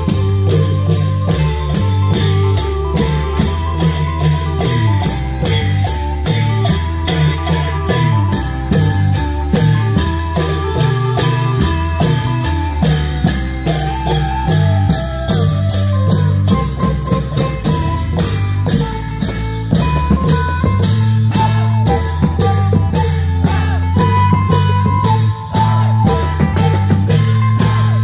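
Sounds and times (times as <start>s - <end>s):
amplified plucked-string melody: 0.0s - 28.0s
bass: 0.0s - 28.0s
long drums and percussion: 0.0s - 28.0s.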